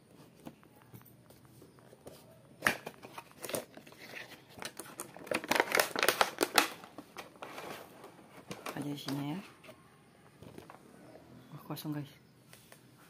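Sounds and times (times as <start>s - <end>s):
plastic and cardboard crinkling: 0.0s - 10.8s.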